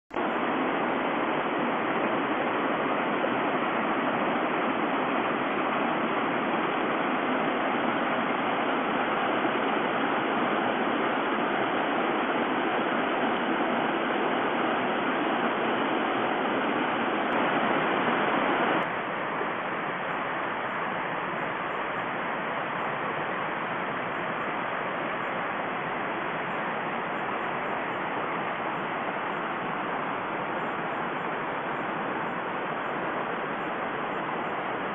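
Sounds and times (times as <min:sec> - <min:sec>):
creek rushing over stones: 0:00.2 - 0:34.9.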